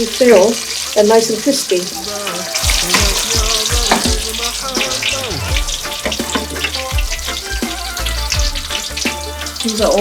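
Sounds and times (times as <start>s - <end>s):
fritters deep-frying in hot oil: 0.0s - 10.0s.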